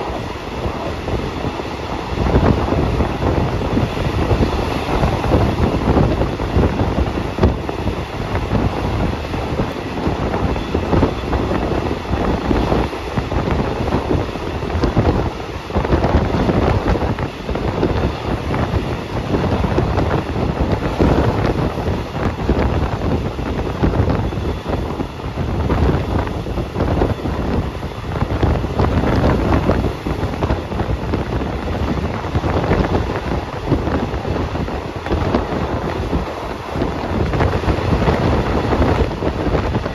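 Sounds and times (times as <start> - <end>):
train wheels rumbling on rails: 0.0 - 39.9
wind on microphone: 0.0 - 39.9.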